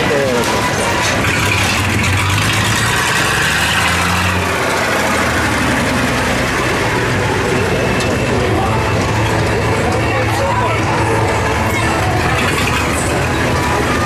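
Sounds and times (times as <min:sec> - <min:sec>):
monster truck engine running: 0:00.0 - 0:14.0.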